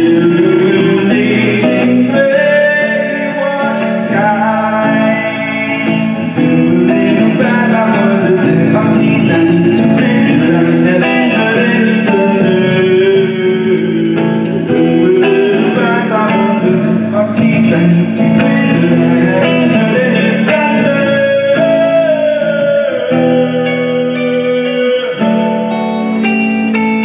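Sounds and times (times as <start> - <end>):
guitar: 0.0 - 27.0
person singing: 0.0 - 27.0.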